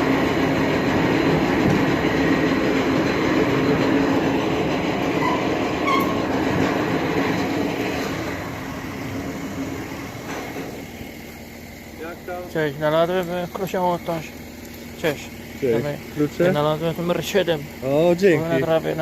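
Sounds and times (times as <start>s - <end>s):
loud steady rumbling: 0.0s - 19.0s.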